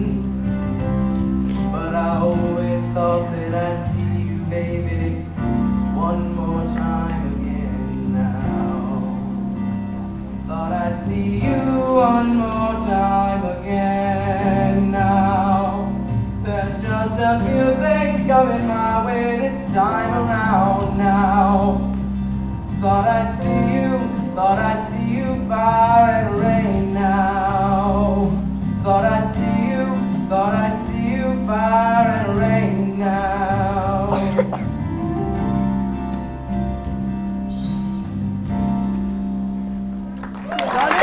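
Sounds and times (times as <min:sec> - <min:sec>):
steady low bass note: 0:00.0 - 0:40.1
guitar: 0:00.0 - 0:41.0.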